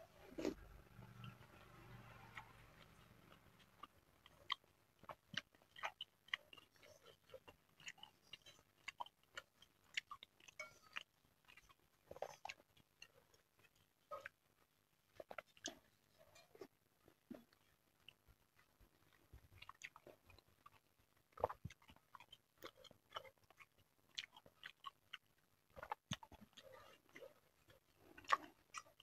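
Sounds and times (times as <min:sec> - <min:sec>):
soft chewing: 0:00.0 - 0:29.0.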